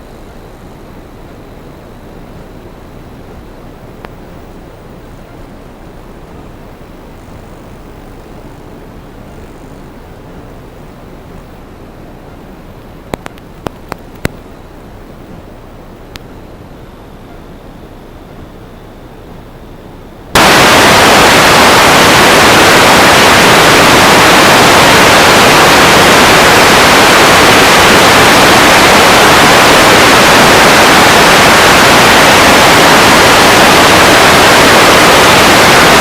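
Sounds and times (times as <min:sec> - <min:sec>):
static hiss: 0:00.0 - 0:36.0.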